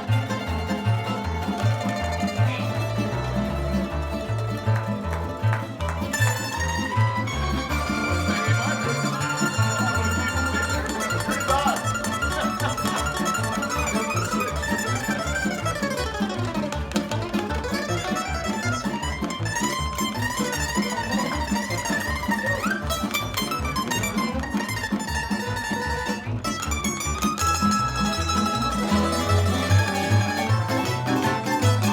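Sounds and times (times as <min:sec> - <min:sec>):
plucked string ensemble melody: 0:00.0 - 0:31.9
rhythmic bass line: 0:00.0 - 0:31.9.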